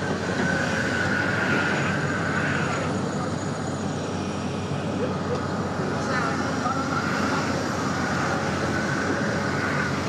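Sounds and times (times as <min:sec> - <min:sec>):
excavator diesel engine running: 0:00.0 - 0:10.0
high hydraulic whine: 0:00.0 - 0:10.0.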